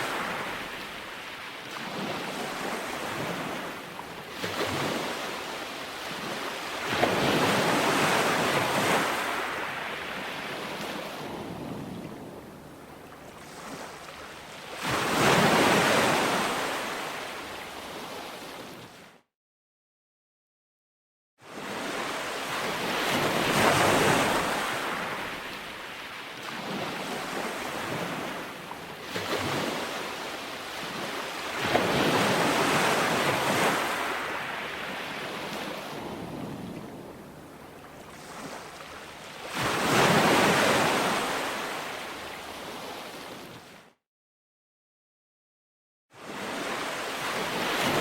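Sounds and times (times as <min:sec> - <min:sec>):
ocean waves breaking on beach: 0:00.0 - 0:19.2, 0:21.4 - 0:44.0, 0:46.2 - 0:48.0.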